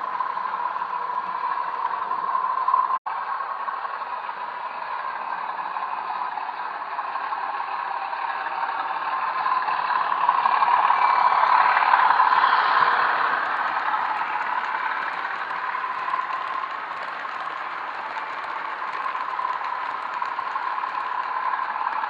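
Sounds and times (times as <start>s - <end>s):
model train whirring and rattling: 0.0s - 22.0s.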